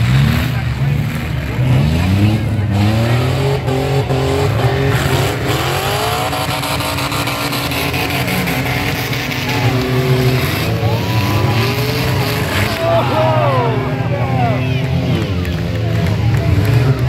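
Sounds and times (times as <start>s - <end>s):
crowd din: 0.0s - 17.0s
truck engines revving: 0.0s - 17.0s.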